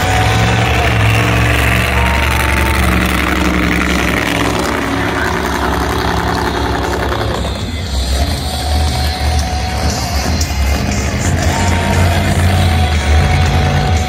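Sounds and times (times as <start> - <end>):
monster truck engine rumbling: 0.0 - 14.0.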